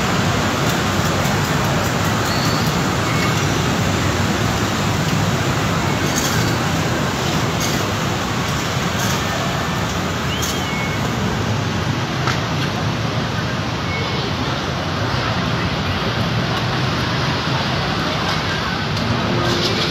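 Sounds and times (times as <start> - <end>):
city street traffic: 0.0 - 19.9.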